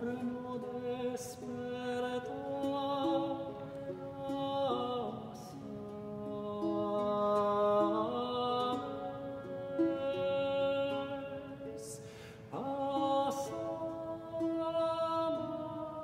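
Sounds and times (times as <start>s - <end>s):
plucked guitar: 0.0s - 16.0s
tenor singing: 0.0s - 16.0s.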